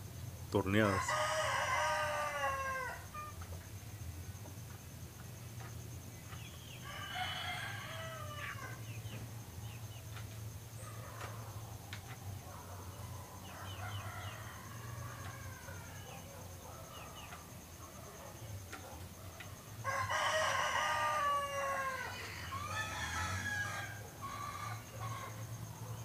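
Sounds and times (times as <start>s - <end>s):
rooster crowing: 0.7s - 3.4s, 6.6s - 9.8s, 10.7s - 26.0s.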